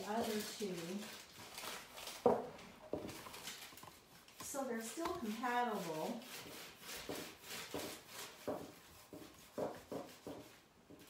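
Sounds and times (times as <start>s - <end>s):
iron rubbing over paper: 0.0s - 1.9s, 3.3s - 11.0s.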